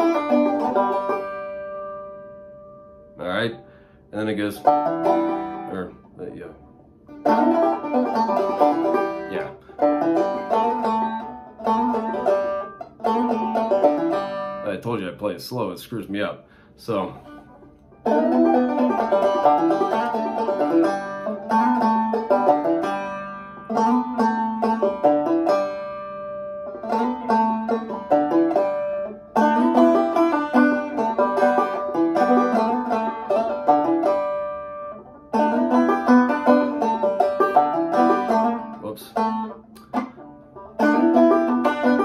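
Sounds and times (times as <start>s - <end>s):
banjo playing: 0.0s - 15.8s, 16.9s - 42.0s.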